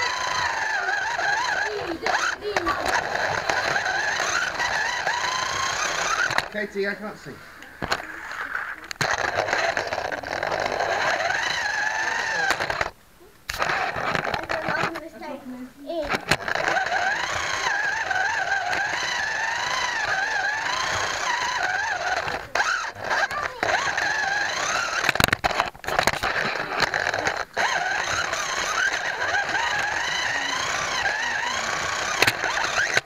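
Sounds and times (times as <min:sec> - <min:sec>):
sharp clicks: 0:00.0 - 0:06.7, 0:07.6 - 0:15.1, 0:16.0 - 0:33.0
slot car motor whining: 0:00.0 - 0:33.0.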